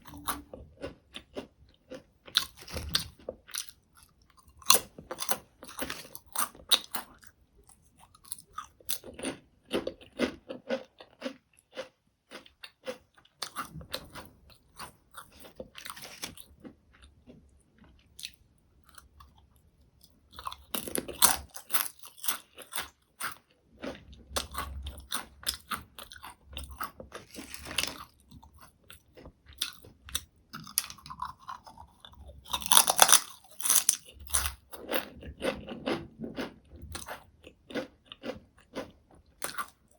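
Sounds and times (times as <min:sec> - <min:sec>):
chips crunching while chewed: 0:00.0 - 0:19.4, 0:20.3 - 0:39.9.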